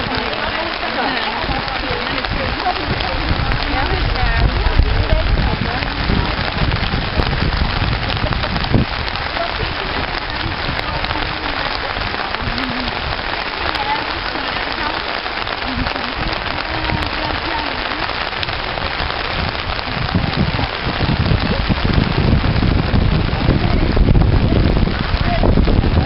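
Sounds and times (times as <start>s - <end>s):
steady rain: 0.0s - 26.0s
wind rumble on microphone: 0.0s - 26.0s.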